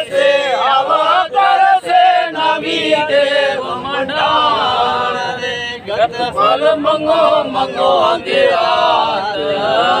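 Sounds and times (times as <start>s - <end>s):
men singing together: 0.0s - 10.0s.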